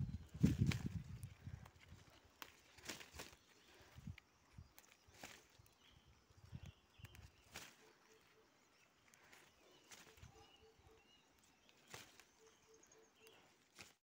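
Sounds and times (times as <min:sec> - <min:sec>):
leaves rustling and clicking: 0:00.0 - 0:14.0
faint chirps: 0:01.3 - 0:14.0.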